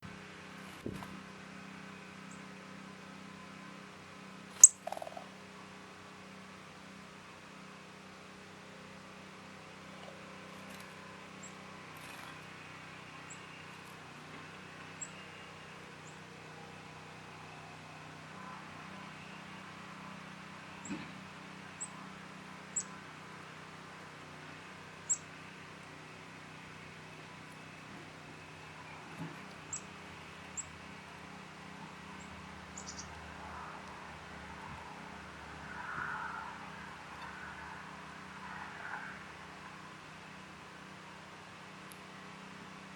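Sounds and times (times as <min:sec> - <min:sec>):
faint background hum: 0:00.0 - 0:42.9.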